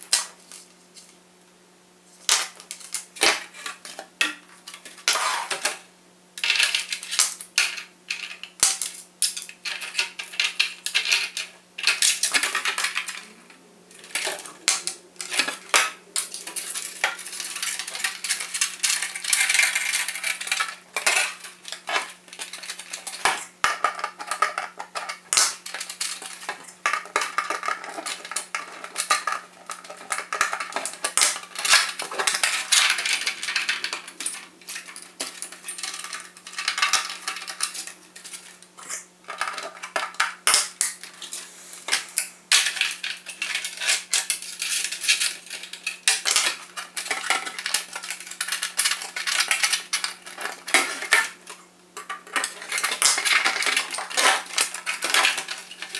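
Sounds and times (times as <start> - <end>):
small hard parts clattering: 6.4 - 55.9.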